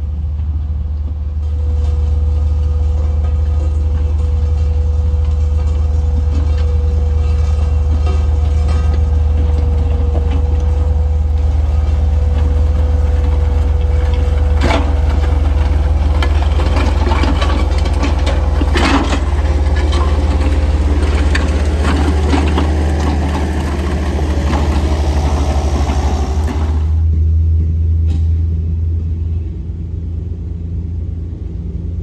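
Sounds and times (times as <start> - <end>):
diesel engine running: 0.0 - 27.2.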